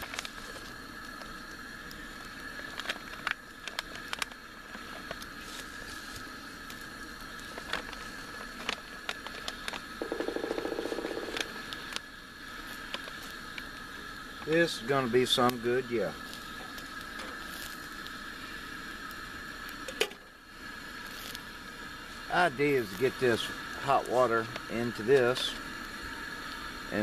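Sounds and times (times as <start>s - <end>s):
sharp crackles and clicks: 0.0s - 20.2s, 20.9s - 25.3s
camp stove hissing: 0.0s - 27.0s.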